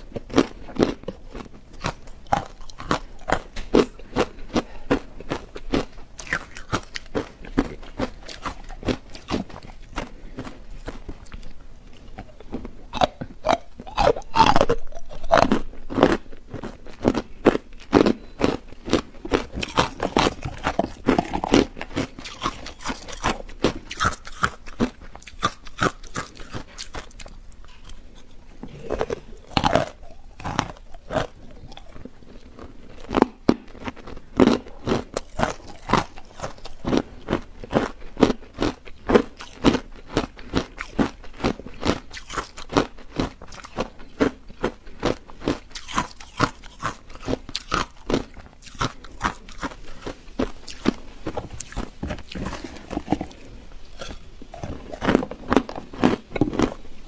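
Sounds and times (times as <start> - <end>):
ice being chewed with crunches: 0.0 - 57.0.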